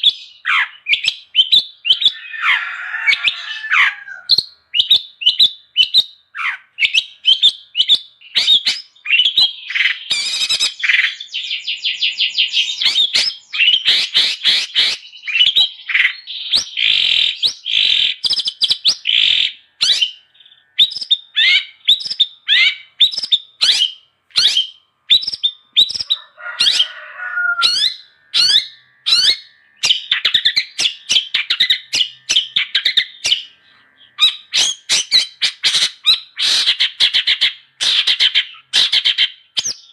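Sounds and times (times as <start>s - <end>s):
bird singing sharp high chirps: 0.0s - 39.9s.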